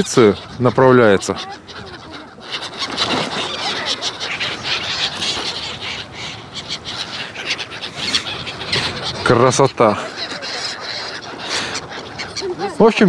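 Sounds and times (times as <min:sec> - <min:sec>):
flock of gulls calling: 0:00.0 - 0:13.0.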